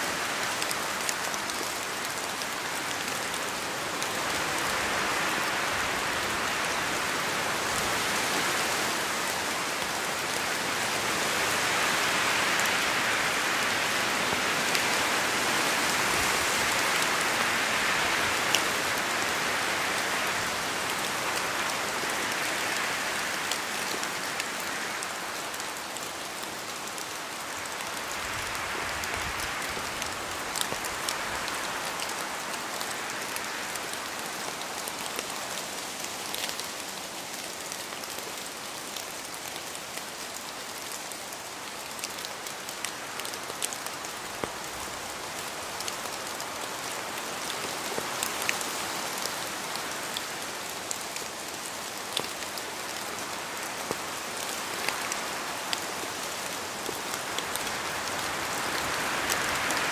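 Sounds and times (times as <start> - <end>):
rain hissing on surfaces: 0.0 - 59.9.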